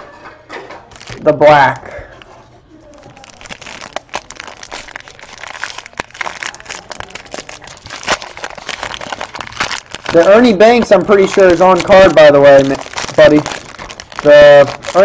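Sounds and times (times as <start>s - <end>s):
plastic wrap crinkling: 0.9s - 15.0s.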